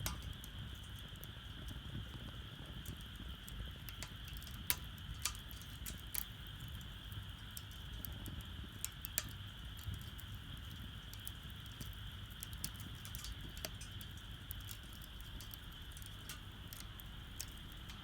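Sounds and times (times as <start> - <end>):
low burning rumble: 0.0 - 18.0
wood fire crackling and popping: 0.0 - 18.0.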